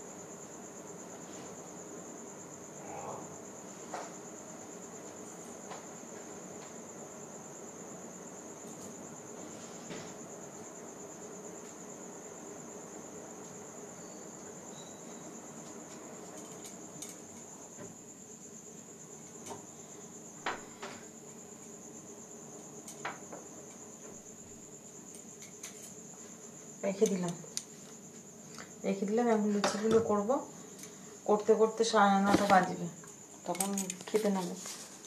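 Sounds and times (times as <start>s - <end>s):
crickets trilling: 0.0s - 35.0s
low household hum: 0.0s - 35.0s.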